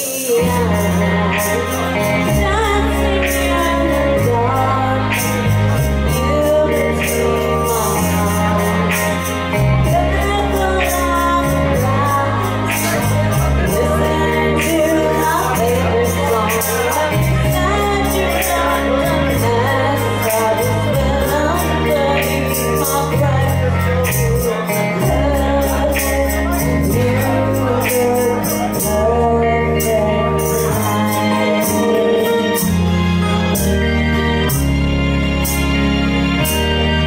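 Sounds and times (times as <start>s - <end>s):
woman singing into a microphone: 0.0s - 34.3s
karaoke backing track: 0.0s - 37.0s.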